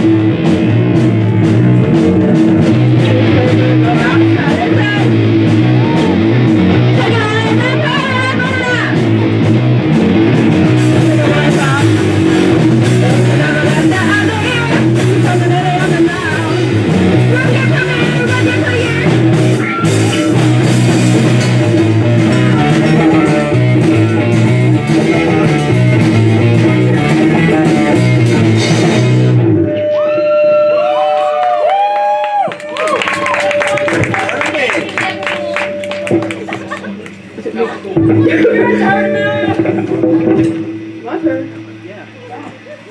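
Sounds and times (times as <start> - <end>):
rock band playing loudly: 0.0 - 29.8, 32.6 - 42.9.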